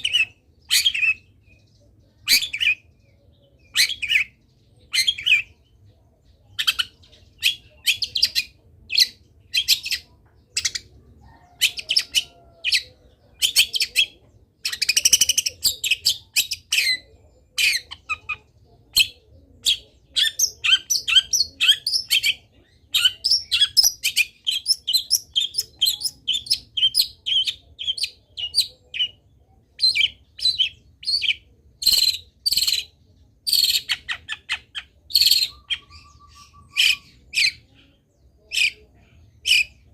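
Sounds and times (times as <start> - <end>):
shrike singing varied chirps: 0.0 - 39.9.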